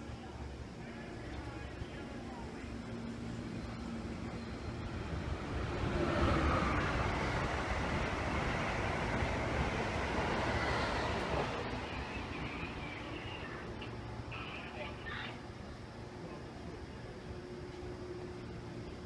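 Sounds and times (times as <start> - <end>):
faint high whine: 0.0 - 19.0
train wheels rumbling on rail: 1.1 - 19.0.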